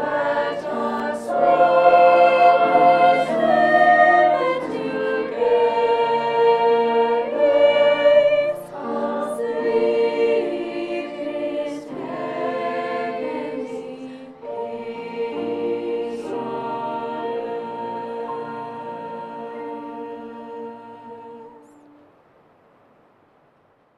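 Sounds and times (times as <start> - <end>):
choir singing in harmony: 0.0 - 22.0.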